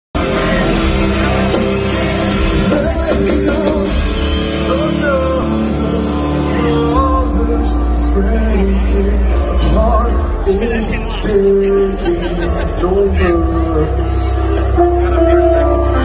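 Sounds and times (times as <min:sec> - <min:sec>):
live rock band playing: 0:00.2 - 0:16.0
person singing: 0:00.2 - 0:16.0.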